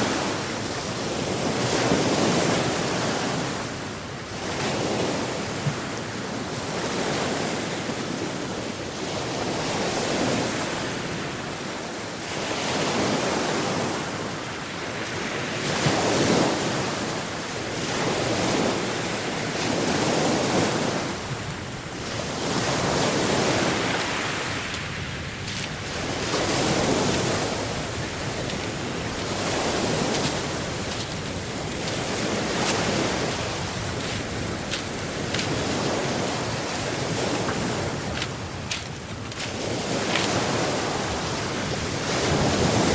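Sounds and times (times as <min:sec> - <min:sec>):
ocean waves breaking on shore: 0:00.0 - 0:42.9
wind buffeting microphone: 0:00.0 - 0:42.9.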